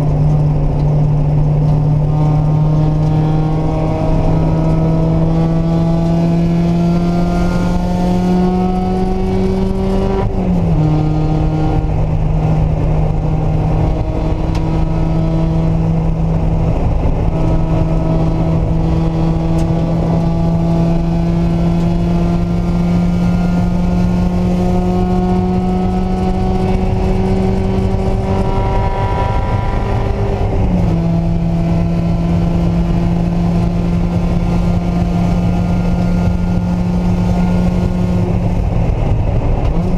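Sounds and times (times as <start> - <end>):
car engine revving and shifting: 0.0 - 39.9.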